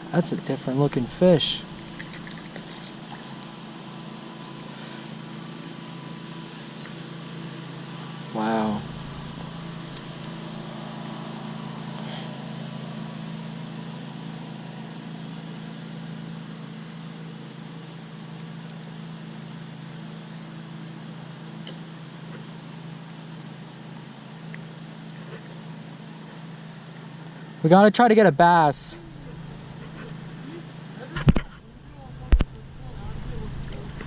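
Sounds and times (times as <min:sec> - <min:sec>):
low steady hum: 0:00.0 - 0:21.1, 0:27.0 - 0:34.0.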